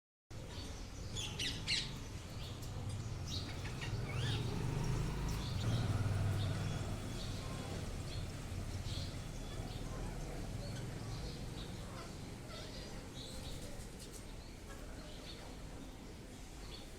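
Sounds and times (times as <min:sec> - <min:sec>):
birds chirping and calling: 0:00.4 - 0:16.0.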